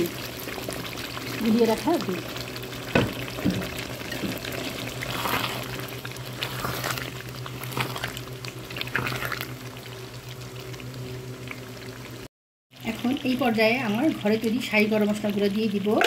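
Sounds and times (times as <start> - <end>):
milk bubbling and simmering: 0.0 - 16.0.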